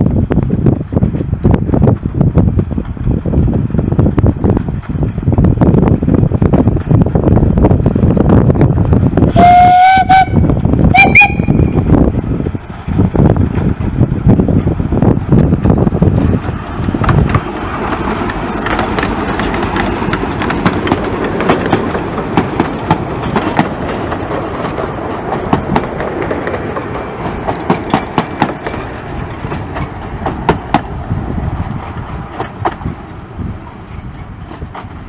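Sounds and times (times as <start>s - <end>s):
train wheels clicking over rail joints: 0.0s - 35.0s.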